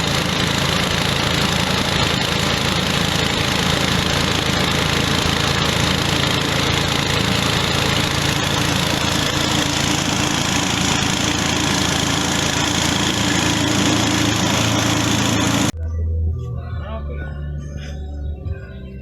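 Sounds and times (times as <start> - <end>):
grinding mill humming and grinding: 0.0 - 15.8.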